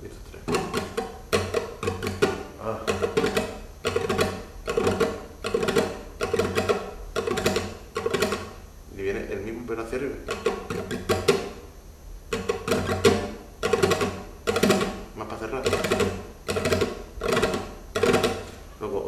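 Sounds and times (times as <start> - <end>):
flamenco guitar strumming: 0.0 - 8.6, 9.9 - 11.7, 12.3 - 19.0.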